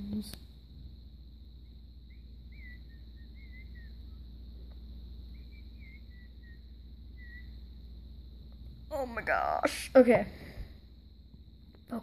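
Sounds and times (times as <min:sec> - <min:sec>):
faint bird chirping: 0:00.0 - 0:12.0
low background rumble: 0:00.0 - 0:12.0.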